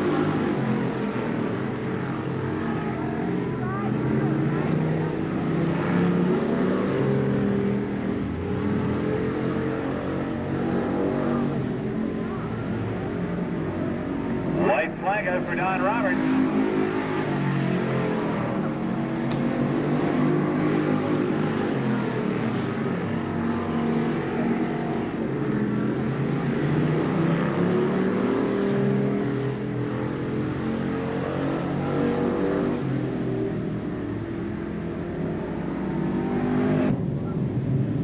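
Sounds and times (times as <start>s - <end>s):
stock car engines racing: 0.0s - 38.0s.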